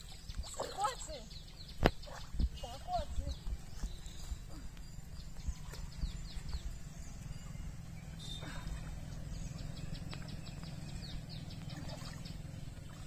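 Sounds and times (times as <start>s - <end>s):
small birds chirping: 0.0s - 13.0s
steady low rumble: 2.4s - 13.0s.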